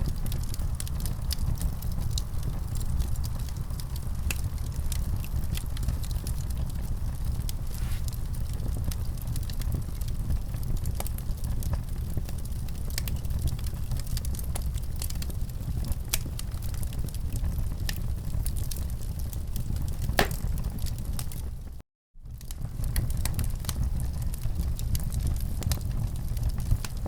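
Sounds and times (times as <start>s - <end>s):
low rumble of flames: 0.0s - 27.0s
wood fire crackling: 0.0s - 27.0s.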